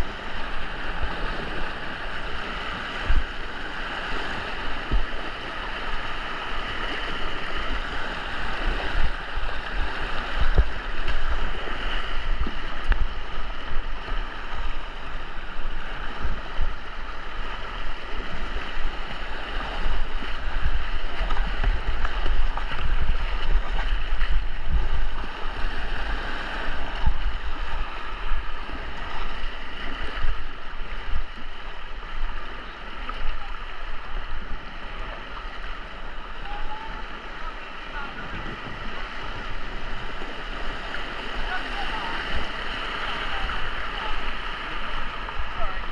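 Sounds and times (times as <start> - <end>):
river rapid rushing: 0.0 - 45.9
water splashes: 0.0 - 45.9
wind rumble on microphone: 0.0 - 45.9.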